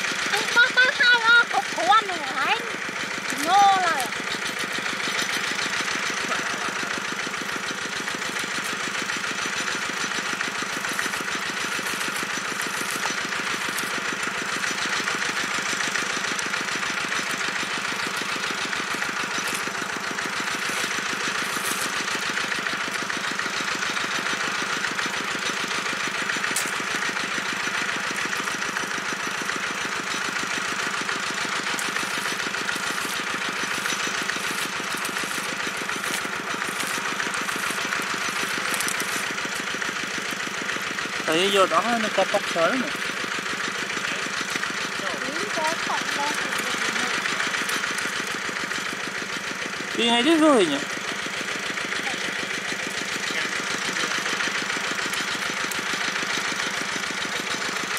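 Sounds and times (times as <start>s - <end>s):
small pump engine running: 0.0s - 57.9s.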